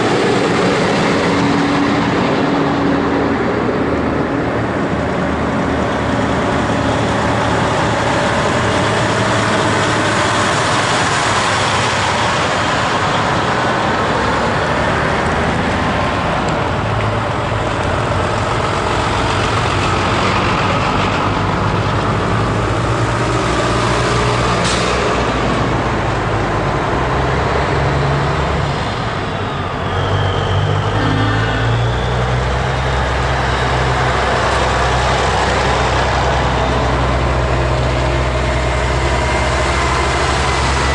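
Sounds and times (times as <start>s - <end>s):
heavy trucks driving past: 0.0s - 40.9s.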